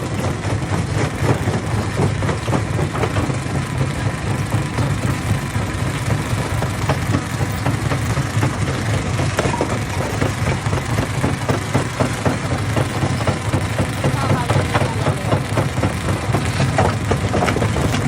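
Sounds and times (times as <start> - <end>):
stone crusher droning: 0.0 - 18.0.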